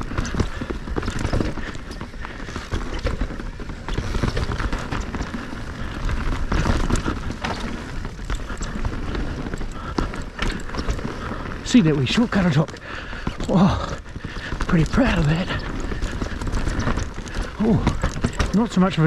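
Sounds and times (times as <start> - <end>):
bike knocks and rattles: 0.0 - 19.0
bike tyres rolling over dirt and rocks: 0.0 - 19.0.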